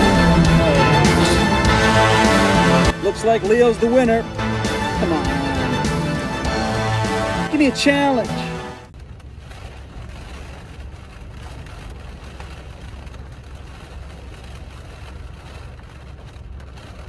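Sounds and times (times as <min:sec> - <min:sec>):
rain pattering on a car roof: 0:00.0 - 0:17.0
steady low rumble: 0:00.0 - 0:17.0.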